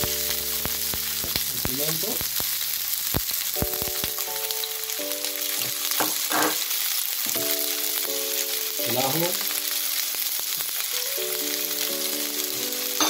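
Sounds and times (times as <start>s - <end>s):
pepper sizzling in oil: 0.0s - 13.0s.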